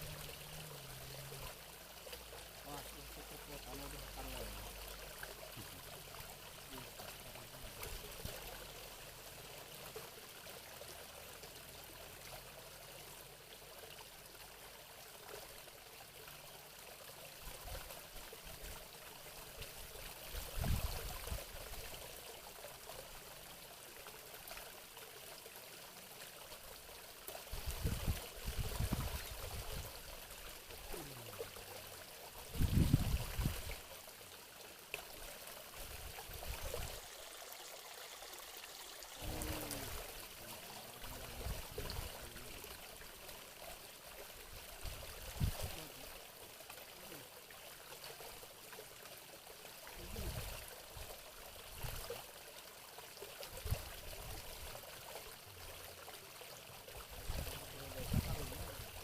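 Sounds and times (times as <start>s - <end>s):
water running and trickling: 0.0s - 59.0s.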